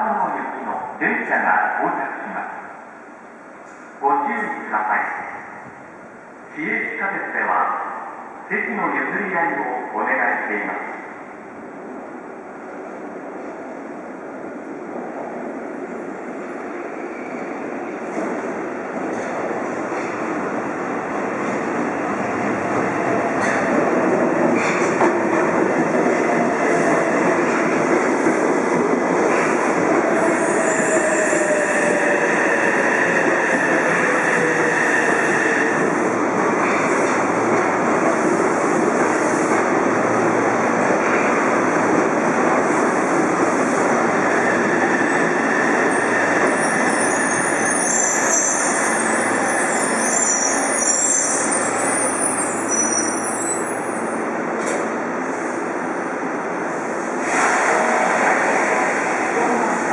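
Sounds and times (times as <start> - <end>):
train wheels rumbling on rail: 11.9 - 59.9.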